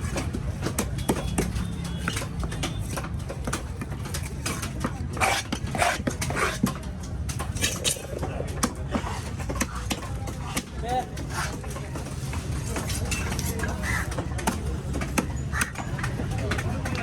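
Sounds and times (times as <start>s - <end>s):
low market rumble: 0.0s - 17.0s.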